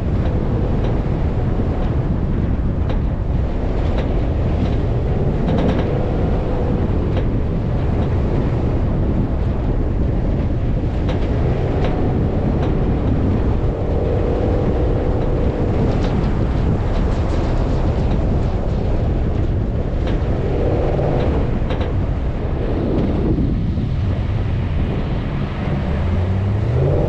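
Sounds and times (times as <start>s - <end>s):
off-road vehicle engine: 0.0s - 27.0s
wind buffeting microphone: 0.0s - 27.0s
clicks and rattles: 0.1s - 23.2s.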